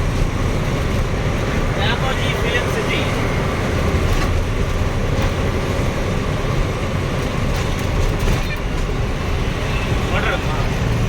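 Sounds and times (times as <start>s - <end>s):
lorry engine and road noise: 0.0s - 11.0s.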